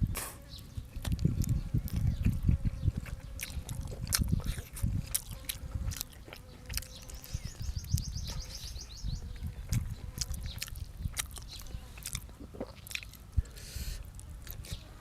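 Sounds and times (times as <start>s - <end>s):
chewing and biting: 0.2s - 8.5s, 9.3s - 14.9s
wet mouth sounds: 1.0s - 8.5s, 9.4s - 14.9s.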